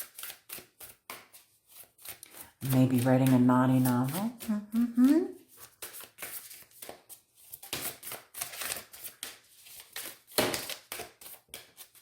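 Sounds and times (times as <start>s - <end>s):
cards shuffling and rustling: 0.0s - 12.0s.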